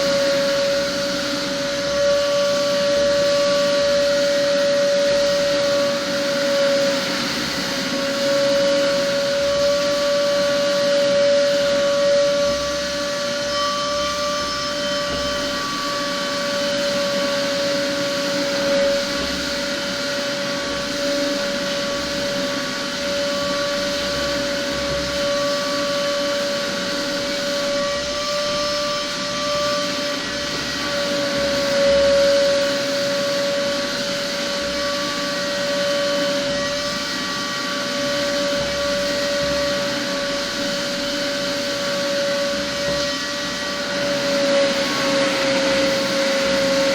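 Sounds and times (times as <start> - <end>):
shop vacuum motor whining: 0.0 - 46.9.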